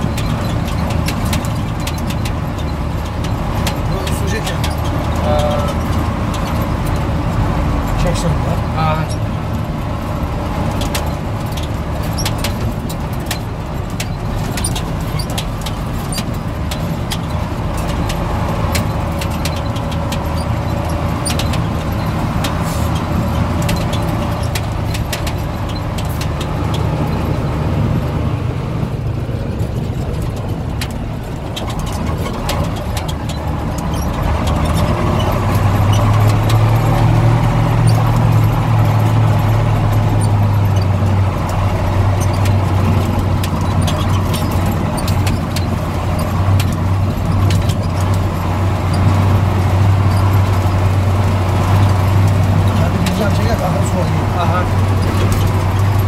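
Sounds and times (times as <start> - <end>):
small knocks and clicks: 0.0 - 8.0, 10.5 - 27.5, 29.5 - 56.0
vehicle body rattling: 0.0 - 56.0
vehicle engine running: 0.0 - 56.0.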